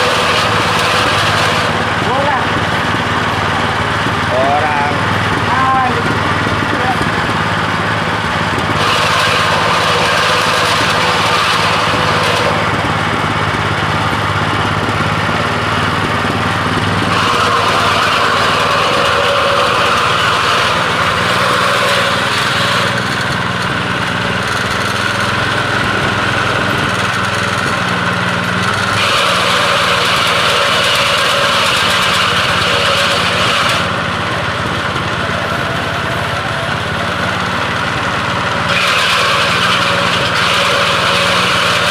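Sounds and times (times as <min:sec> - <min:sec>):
machine motor drone: 0:00.0 - 0:41.9.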